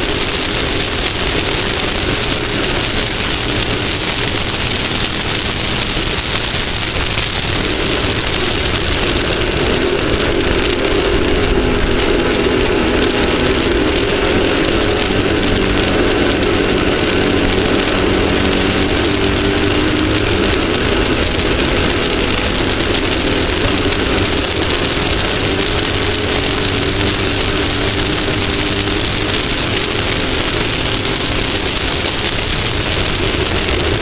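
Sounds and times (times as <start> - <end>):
off-road vehicle engine running: 0.0 - 34.0
wind and terrain noise: 0.0 - 34.0.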